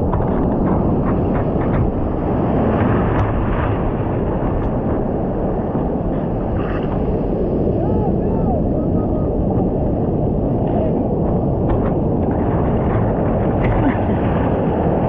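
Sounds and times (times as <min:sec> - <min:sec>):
surf rushing: 0:00.0 - 0:15.0
wind buffeting microphone: 0:00.0 - 0:15.0.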